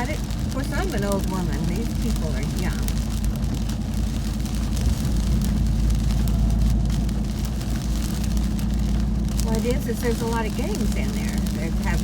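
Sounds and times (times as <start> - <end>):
pickup truck engine rumble: 0.0 - 12.0
rain ticking on truck: 0.0 - 12.0
tyres on wet road: 0.0 - 12.0.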